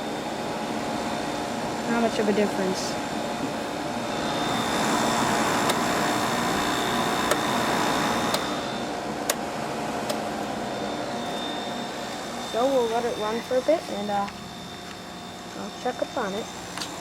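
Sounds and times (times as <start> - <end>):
air conditioner fan and hum: 0.0 - 17.0.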